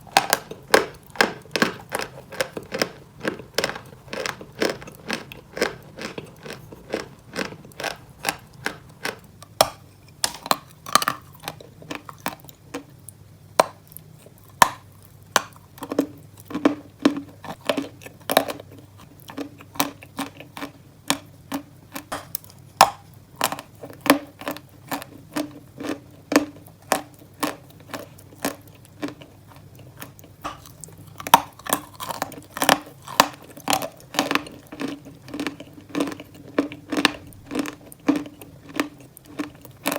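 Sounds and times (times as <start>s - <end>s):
chalk crunching as chewed: 0.0s - 12.9s, 15.4s - 39.9s.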